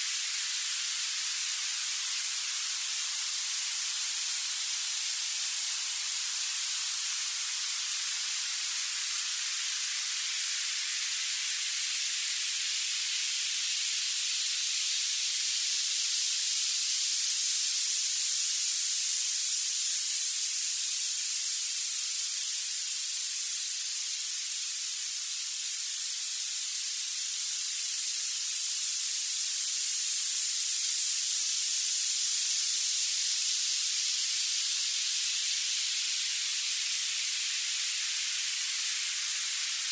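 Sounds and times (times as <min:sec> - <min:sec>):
high-pitched steady hiss: 0:00.0 - 0:39.9.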